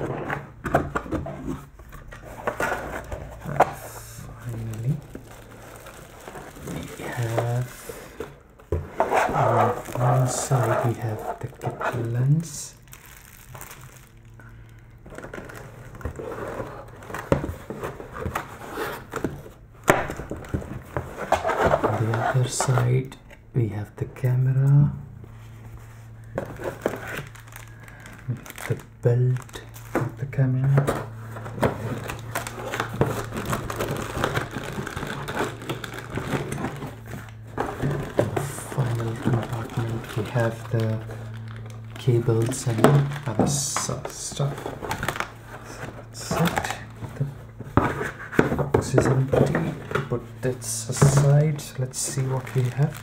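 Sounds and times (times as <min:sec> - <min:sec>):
cardboard rustling and scraping: 0:00.0 - 0:12.5, 0:15.1 - 0:23.0, 0:25.3 - 0:53.0
plastic packaging crinkling: 0:01.4 - 0:23.2, 0:25.8 - 0:53.0.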